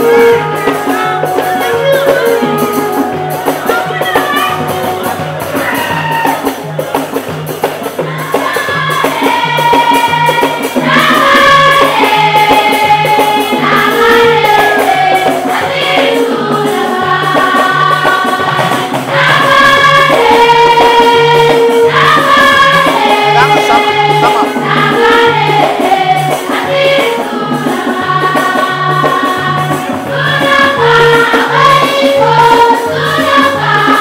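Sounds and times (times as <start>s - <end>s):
choir singing gospel song: 0.0s - 34.0s.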